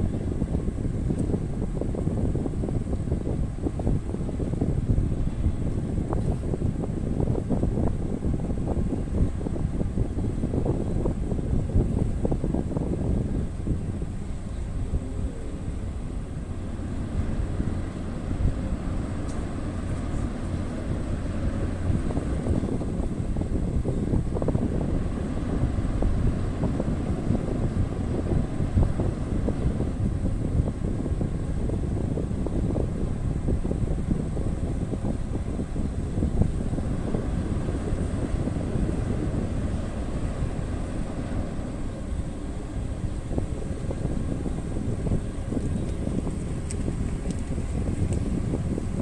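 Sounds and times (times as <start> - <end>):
ferry engines rumbling: 0.0 - 49.0
wind buffeting microphone: 0.0 - 49.0.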